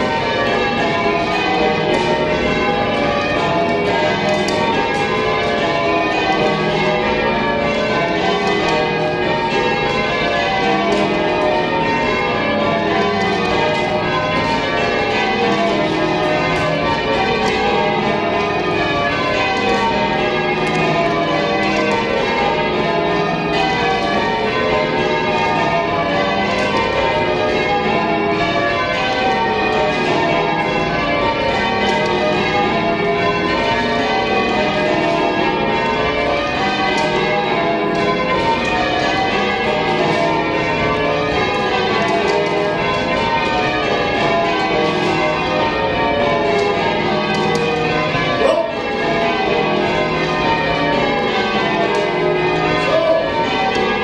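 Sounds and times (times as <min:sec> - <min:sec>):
church bells change ringing: 0:00.0 - 0:54.0.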